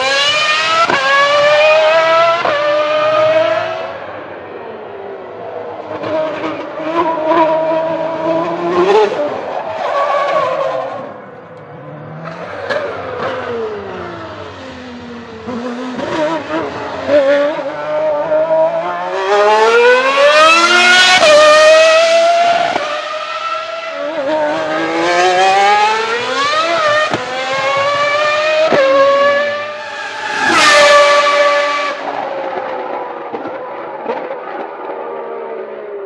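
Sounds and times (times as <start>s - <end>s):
racing engine at full throttle: 0.0s - 36.0s.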